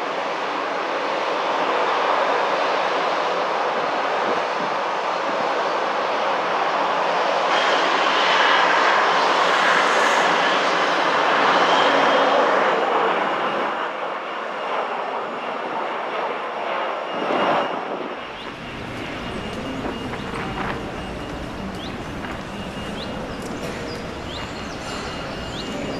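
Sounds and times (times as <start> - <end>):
jet airliner engines roaring: 0.0 - 25.9.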